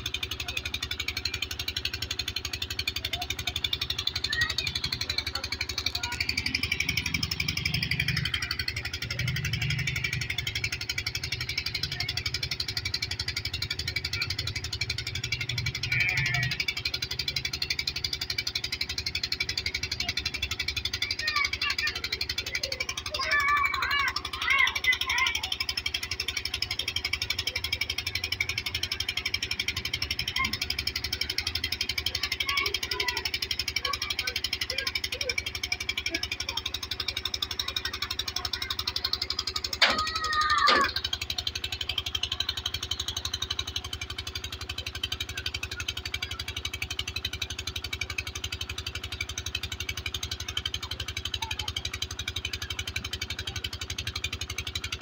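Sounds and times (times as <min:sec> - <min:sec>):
water pump engine running: 0:00.0 - 0:55.0.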